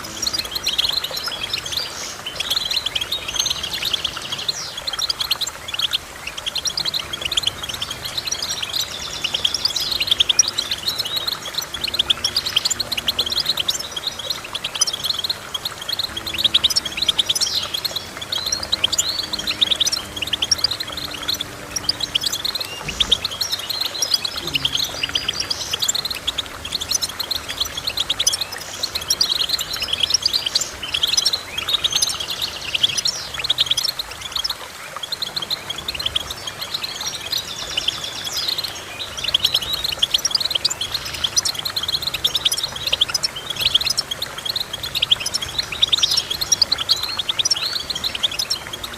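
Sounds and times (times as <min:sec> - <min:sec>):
finch twittering and trilling: 0:00.0 - 0:48.9.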